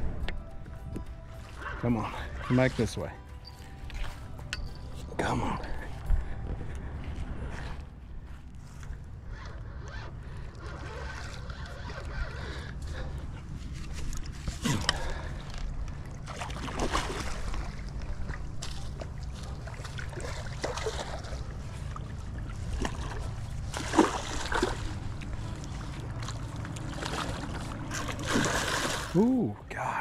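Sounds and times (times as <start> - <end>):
water sloshing and splashing: 1.3 - 5.1, 7.5 - 29.5.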